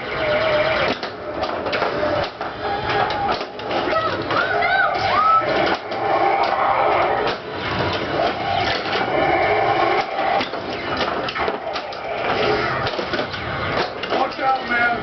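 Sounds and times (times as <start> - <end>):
pinball flippers and ball clatter: 0.3 - 15.0.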